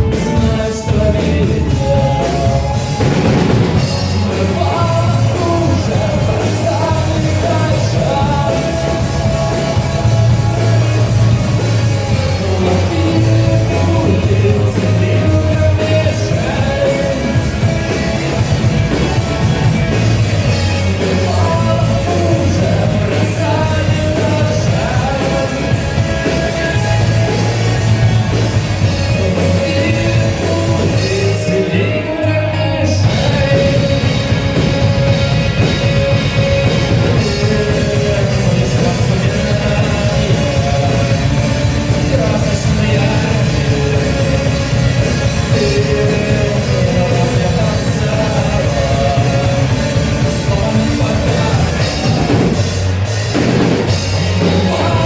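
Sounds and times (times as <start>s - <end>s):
rock band playing with singing: 0.0s - 55.0s.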